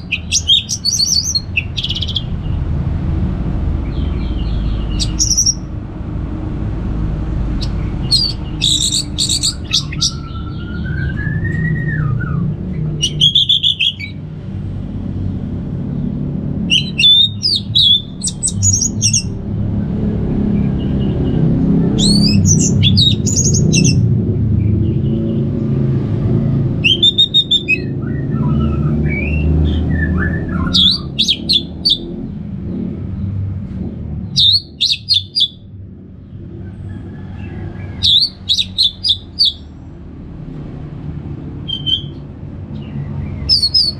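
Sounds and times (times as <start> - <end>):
low background rumble: 0.0 - 43.9
thrush twittering song: 0.0 - 43.9.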